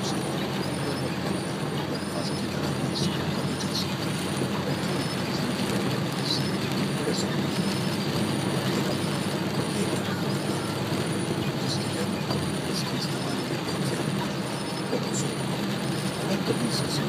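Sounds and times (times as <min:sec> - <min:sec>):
engine and cabin hum: 0:00.0 - 0:17.0
rain on car windscreen: 0:00.0 - 0:17.0
tyres hissing on wet road: 0:00.0 - 0:17.0.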